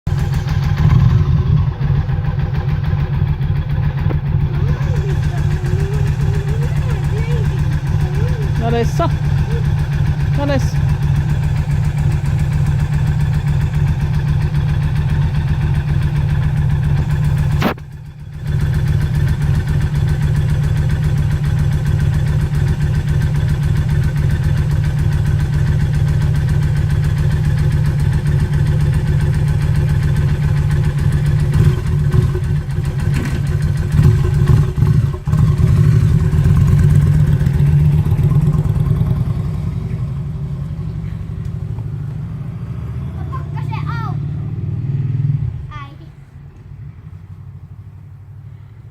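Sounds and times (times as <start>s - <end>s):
motorcycle engine idling: 0.0s - 44.6s.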